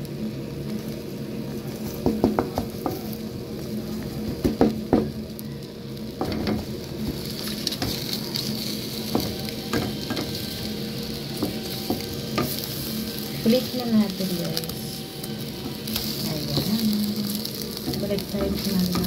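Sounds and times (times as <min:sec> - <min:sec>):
meat and egg sizzling in oil: 0:00.0 - 0:19.0.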